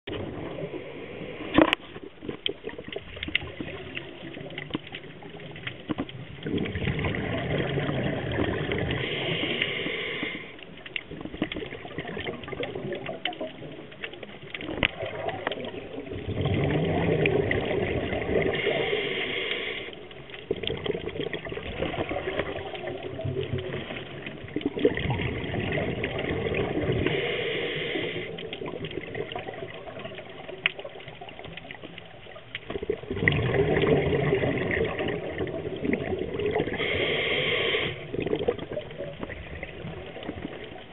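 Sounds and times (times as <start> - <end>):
underwater regulator bubbling: 0.0 - 40.9.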